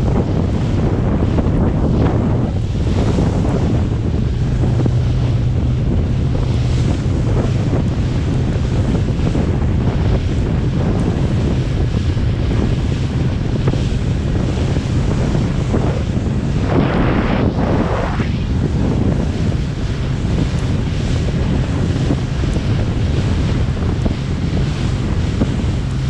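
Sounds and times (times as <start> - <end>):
sea waves washing around boat: 0.0 - 26.0
steady low hum: 0.0 - 26.0
wind buffeting microphone: 0.0 - 26.0.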